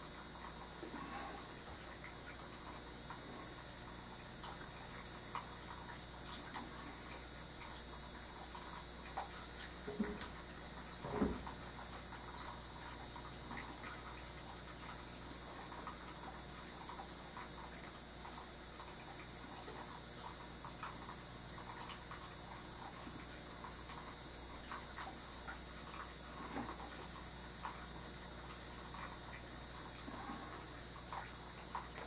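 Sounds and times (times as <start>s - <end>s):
steady hiss and low hum: 0.0s - 32.0s.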